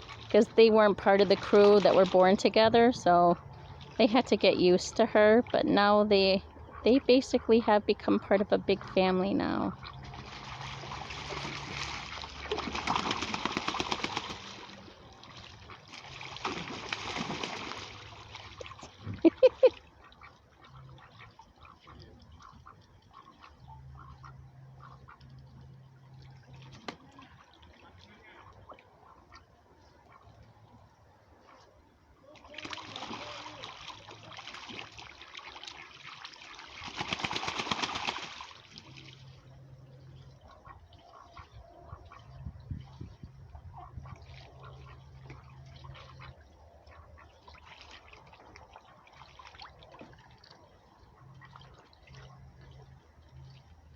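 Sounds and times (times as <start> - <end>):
ducks splashing in water: 0.0 - 5.9, 8.6 - 30.8, 31.4 - 53.9.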